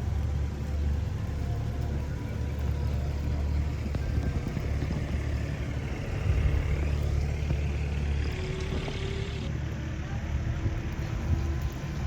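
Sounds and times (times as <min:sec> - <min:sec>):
heavy machinery engine rumbling: 0:00.0 - 0:12.0.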